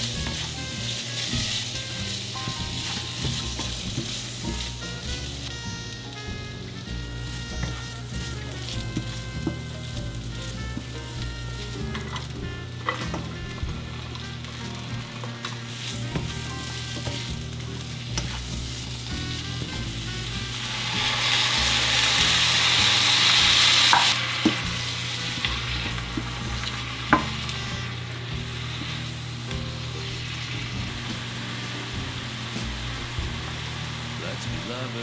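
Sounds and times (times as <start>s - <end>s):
utensil clicking against pan: 0.0s - 33.9s
food sizzling in a frying pan: 0.0s - 35.0s
soft background music: 0.0s - 35.0s.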